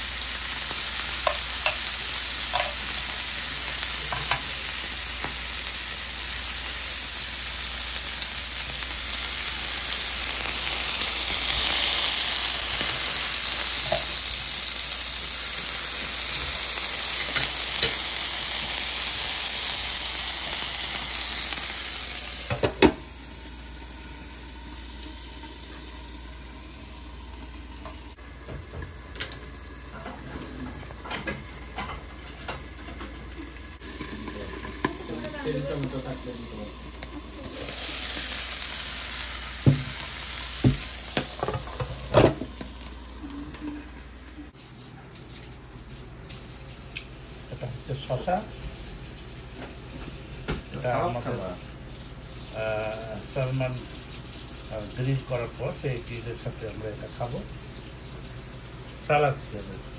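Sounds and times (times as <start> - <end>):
food sizzling on a grill plate: 0.0 - 59.9.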